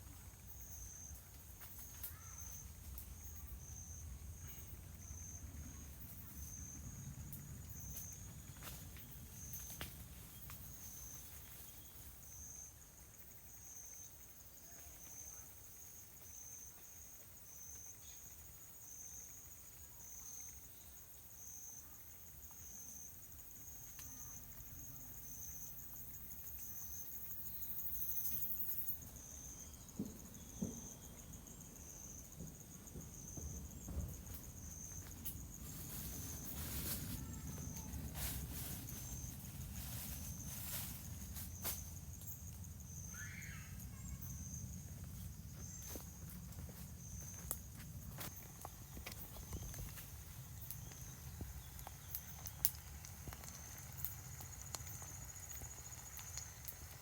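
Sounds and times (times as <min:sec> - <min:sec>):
insects chirping in a pulsed trill: 0:00.0 - 0:57.0.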